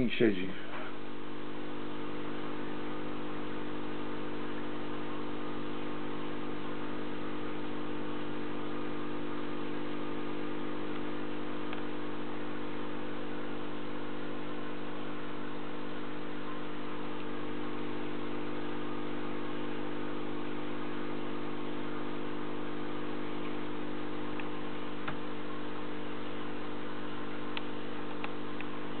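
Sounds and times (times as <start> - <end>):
aquarium air pump humming: 0.0 - 29.0.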